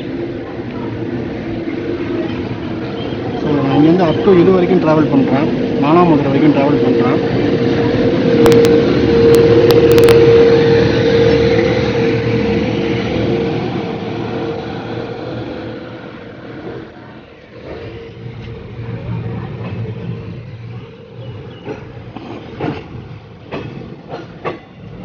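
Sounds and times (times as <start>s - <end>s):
steady humming tone: 0.0s - 22.2s
train rumble: 0.0s - 25.0s.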